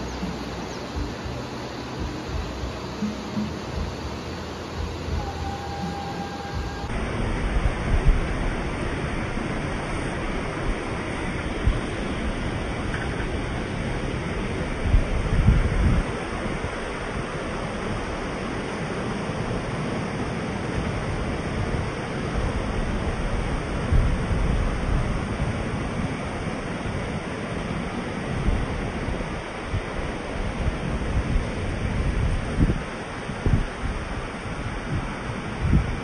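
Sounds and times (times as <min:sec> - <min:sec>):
low rumbles of water: 0:00.0 - 0:36.0
water rushing over a dam: 0:00.0 - 0:36.0.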